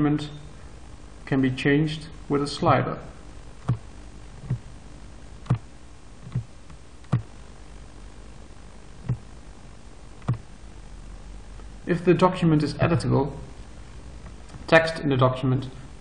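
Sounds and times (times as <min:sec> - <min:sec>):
low electrical hum and hiss: 0:00.0 - 0:16.0.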